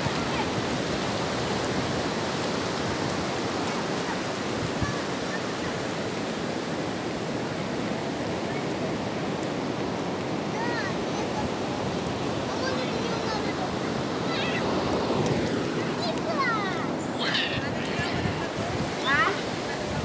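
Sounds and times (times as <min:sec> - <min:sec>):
ocean surf washing up beach: 0:00.0 - 0:20.0.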